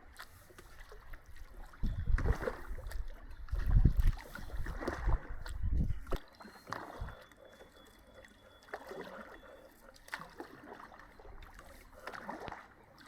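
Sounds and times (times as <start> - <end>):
paddle splashes: 0.0 - 13.0
water trickling and dripping: 0.0 - 13.0.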